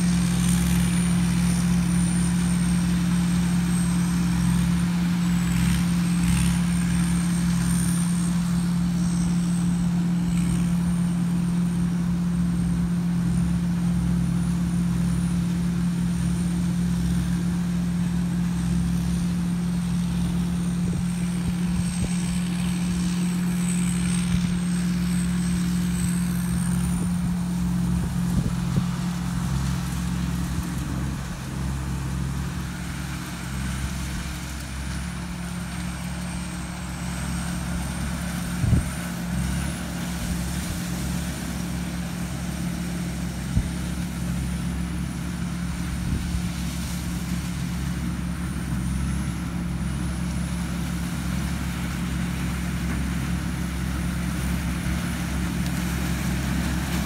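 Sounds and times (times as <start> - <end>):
diesel engine humming under load: 0.0 - 57.0.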